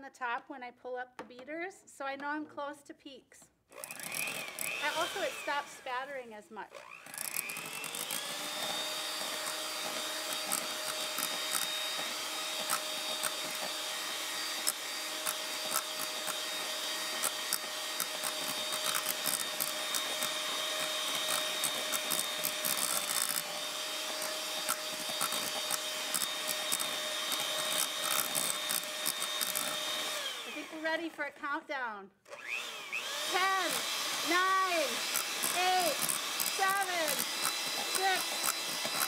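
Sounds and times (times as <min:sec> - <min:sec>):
electric hand mixer running: 0:03.7 - 0:06.1, 0:06.7 - 0:30.8, 0:32.3 - 0:39.0.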